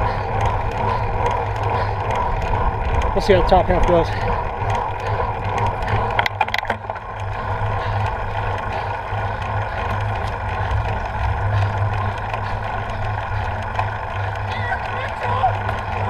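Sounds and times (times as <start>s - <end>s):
wind and road rumble: 0.0s - 16.0s.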